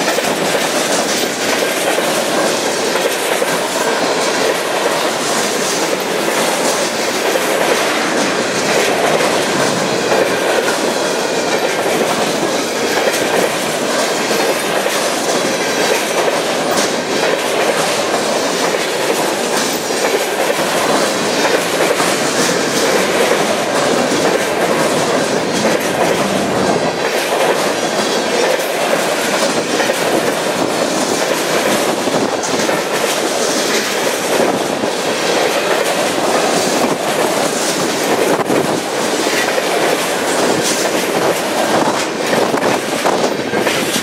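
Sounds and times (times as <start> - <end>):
train wheels clattering on rails: 0.0 - 44.0.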